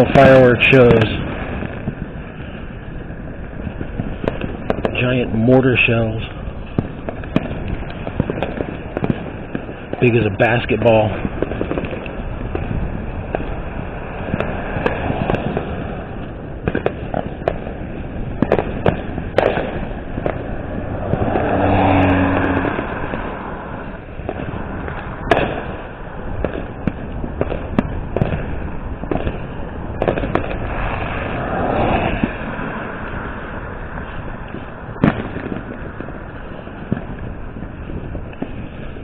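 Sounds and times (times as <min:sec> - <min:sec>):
fireworks bangs and pops: 0:00.0 - 0:39.0.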